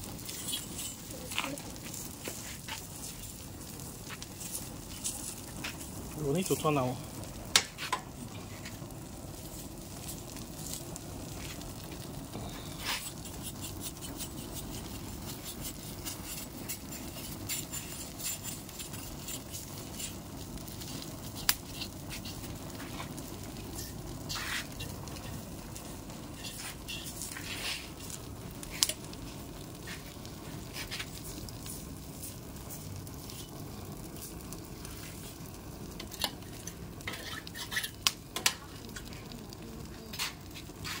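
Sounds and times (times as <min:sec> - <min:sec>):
burning fat sizzling: 0:00.0 - 0:41.0
sharp pops from fire: 0:00.0 - 0:41.0
wood fire crackling: 0:00.0 - 0:41.0.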